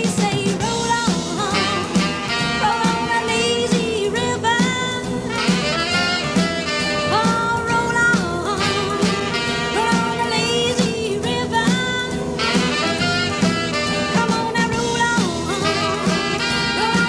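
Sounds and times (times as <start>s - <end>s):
upbeat swing music with horns: 0.0s - 17.0s.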